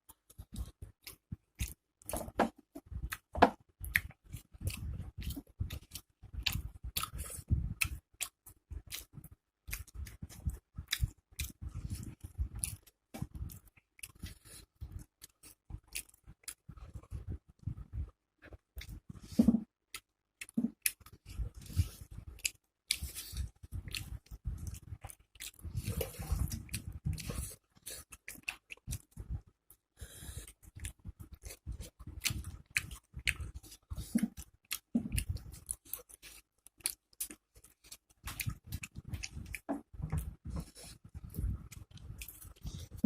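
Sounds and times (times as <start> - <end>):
chewing and lip smacking: 0.1 - 43.0.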